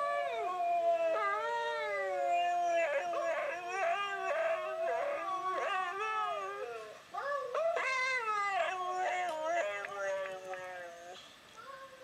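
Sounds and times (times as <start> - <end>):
dogs howling vocalizations: 0.0 - 11.2.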